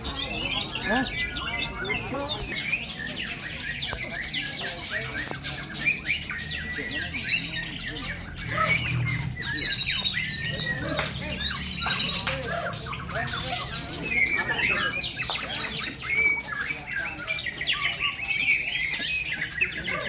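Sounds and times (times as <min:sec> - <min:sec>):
murmur of background voices: 0:00.0 - 0:20.0
songbirds singing: 0:00.0 - 0:20.0.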